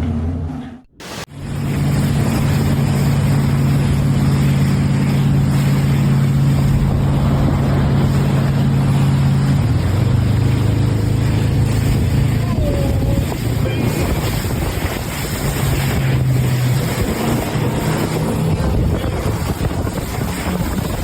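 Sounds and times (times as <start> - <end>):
engine running steadily: 0.0 - 21.0
loud rushing noise: 1.0 - 21.0.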